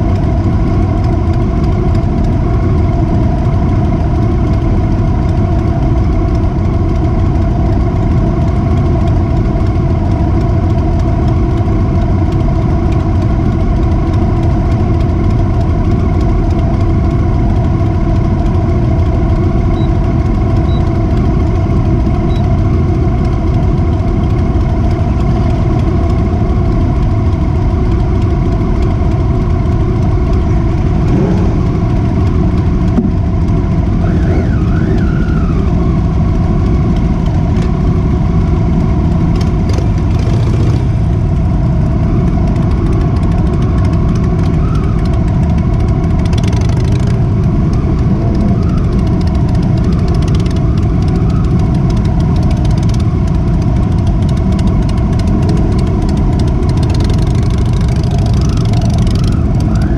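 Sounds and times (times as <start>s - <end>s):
heavy low rumble: 0.0s - 59.9s
motorcycle engine running: 0.0s - 59.9s.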